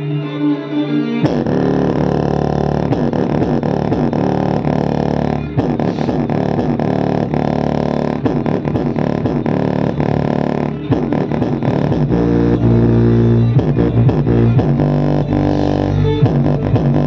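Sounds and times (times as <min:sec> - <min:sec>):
bass-boosted electronic song: 0:00.0 - 0:17.0.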